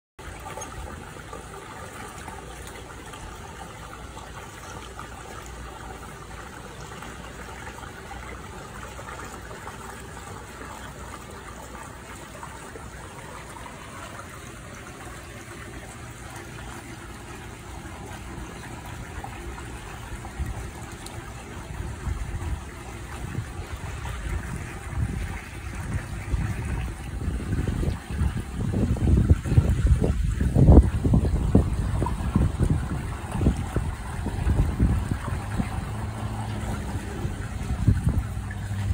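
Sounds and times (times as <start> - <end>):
trickle of running water: 0.2 - 38.9.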